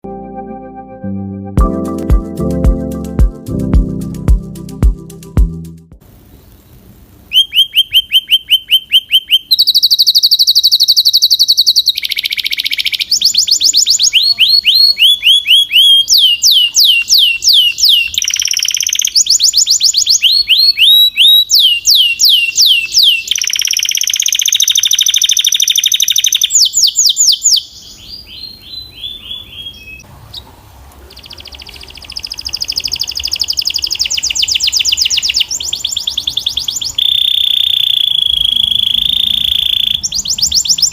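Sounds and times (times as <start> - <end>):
canary singing trills: 7.3 - 40.9.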